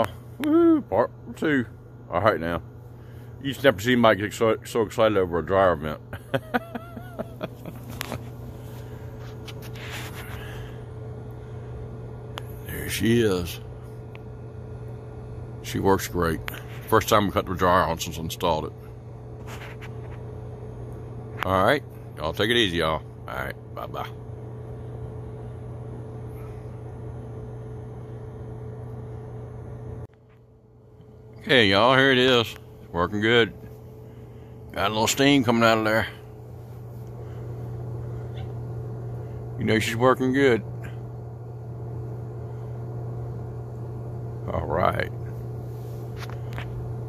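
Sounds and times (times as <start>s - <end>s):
dryer exhaust air rushing: 0.0s - 47.0s.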